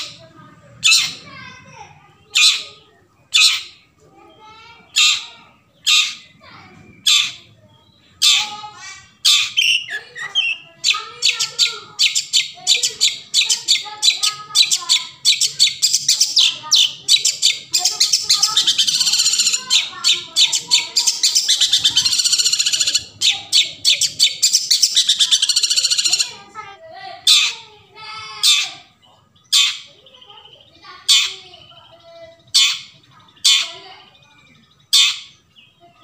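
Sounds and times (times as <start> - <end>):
bird singing harsh chattering song: 0.0 - 36.0.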